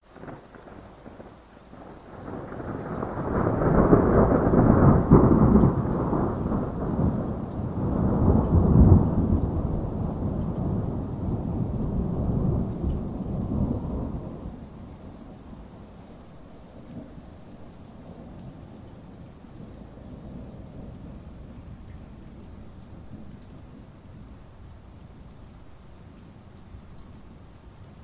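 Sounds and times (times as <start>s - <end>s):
rain: 0.0s - 28.0s
rolling thunder: 0.2s - 24.4s.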